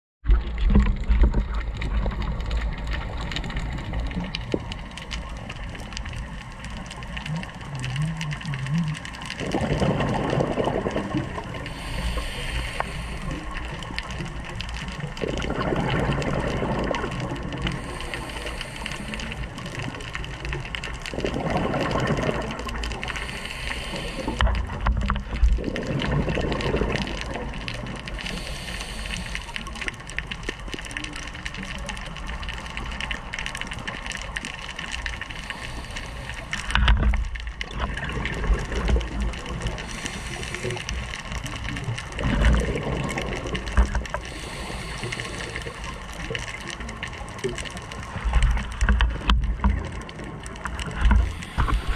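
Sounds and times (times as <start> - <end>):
exhaled bubbles from regulator: 0.2 - 30.0, 35.2 - 51.9
low underwater rumble: 0.2 - 51.9.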